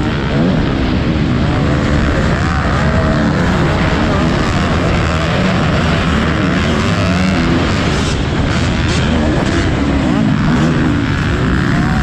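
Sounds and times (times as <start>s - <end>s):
dense rushing noise: 0.0s - 12.0s
motocross bike engine: 0.0s - 12.0s
other bike engines: 0.0s - 12.0s.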